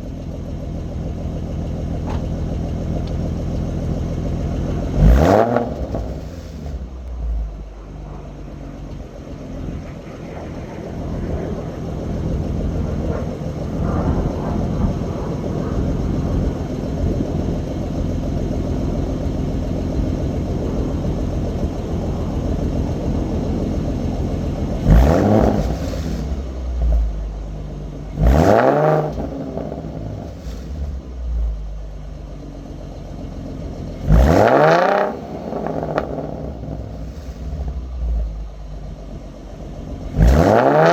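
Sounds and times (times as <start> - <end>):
car engine idling: 0.0 - 40.9
car engine revving: 0.7 - 32.4, 33.4 - 40.9.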